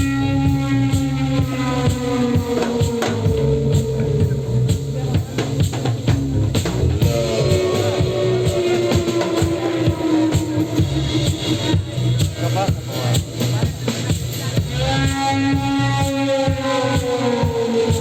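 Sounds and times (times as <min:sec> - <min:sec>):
drum kit hits: 0:00.0 - 0:18.0
live trance band music: 0:00.0 - 0:18.0.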